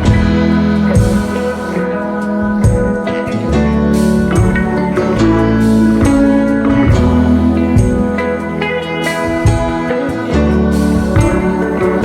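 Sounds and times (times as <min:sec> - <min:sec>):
guitar music: 0:00.0 - 0:12.0
steady bass: 0:00.0 - 0:12.0.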